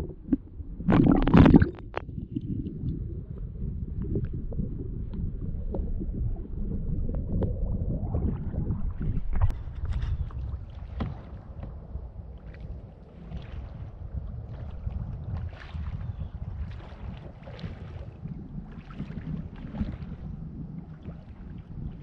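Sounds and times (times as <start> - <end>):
water splashing against kayak: 0.0 - 22.0
wind rumbling on microphone: 0.0 - 22.0.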